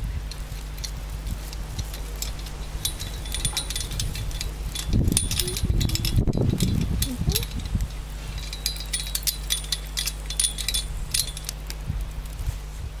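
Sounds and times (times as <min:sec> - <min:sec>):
charcoal embers crackling: 0:00.0 - 0:13.0
low rough rumble: 0:00.0 - 0:13.0.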